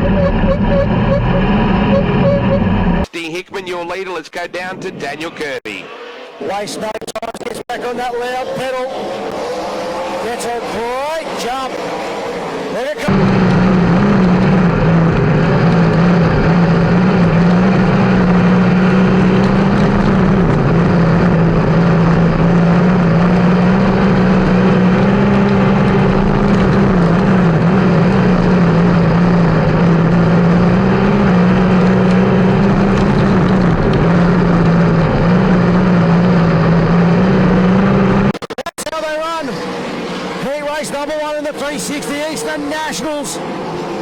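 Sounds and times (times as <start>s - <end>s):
race car engine at high revs: 0.0s - 3.1s, 5.3s - 44.0s.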